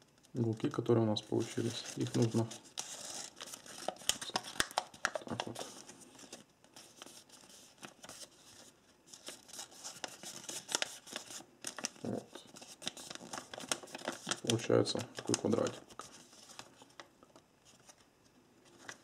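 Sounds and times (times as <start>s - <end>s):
paper crinkling being folded: 0.0s - 19.0s.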